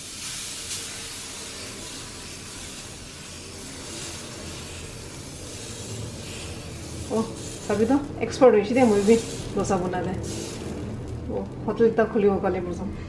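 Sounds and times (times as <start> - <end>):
batter sizzling on hot iron: 0.0 - 12.3.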